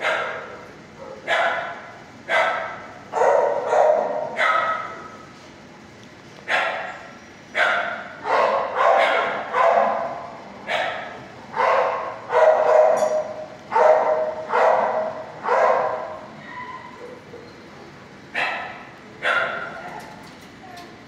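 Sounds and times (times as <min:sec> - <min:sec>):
dog barking: 0:00.0 - 0:05.2, 0:06.5 - 0:17.5, 0:18.4 - 0:20.0.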